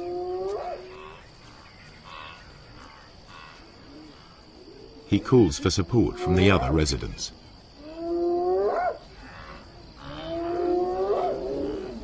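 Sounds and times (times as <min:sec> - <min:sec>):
night insects humming: 0:00.0 - 0:12.0.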